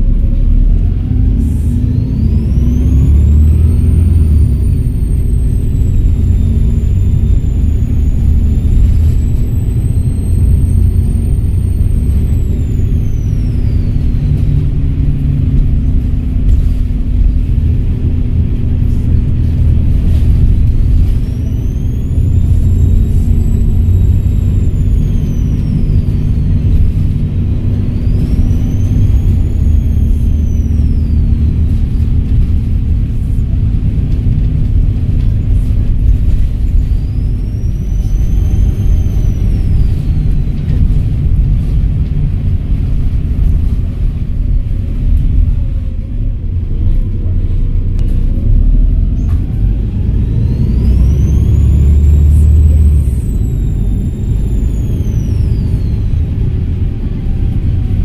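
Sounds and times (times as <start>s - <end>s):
bus diesel engine rumbling: 0.0s - 58.0s
turbocharger whistling: 0.0s - 58.0s.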